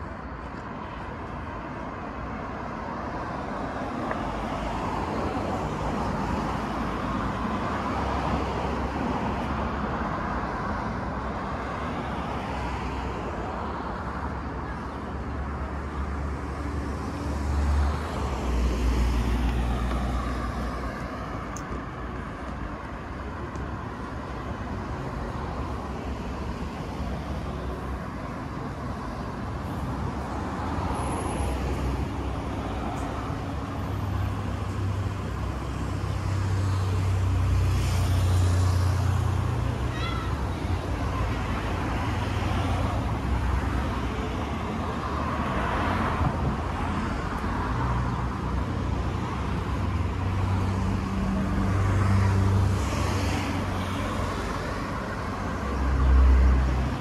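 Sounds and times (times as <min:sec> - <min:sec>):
road traffic rushing: 0:00.0 - 0:57.0.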